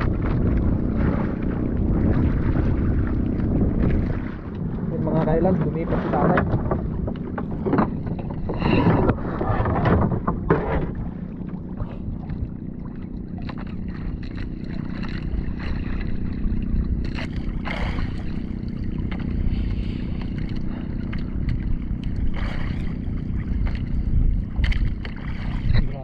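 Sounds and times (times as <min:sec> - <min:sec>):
boat engine running: 0:00.0 - 0:26.0
wind rumble on microphone: 0:00.0 - 0:26.0.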